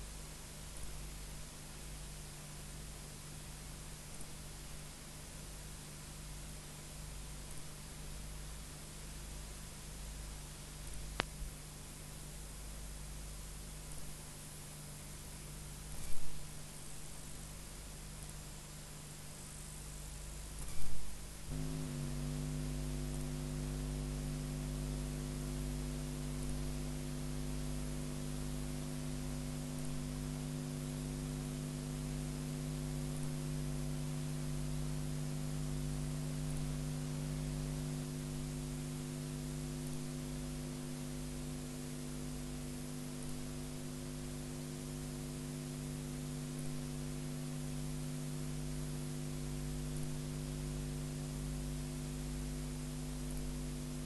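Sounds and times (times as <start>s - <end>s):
background hiss: 0.0s - 54.0s
electrical mains hum: 0.0s - 54.0s.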